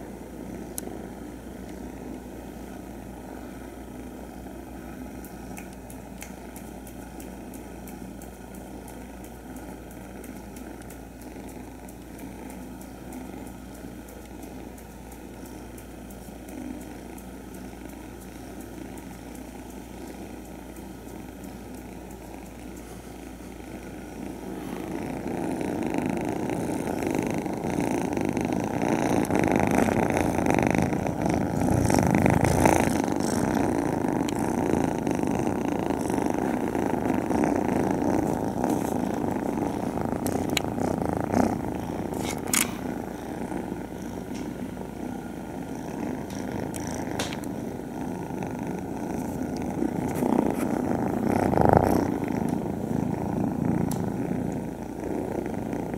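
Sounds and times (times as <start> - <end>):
kittens purring: 0.0 - 55.9.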